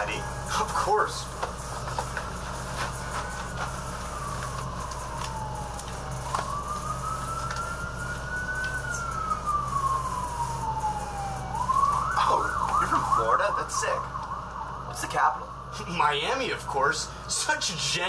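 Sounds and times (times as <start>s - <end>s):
emergency vehicle siren wailing: 0.0s - 17.3s.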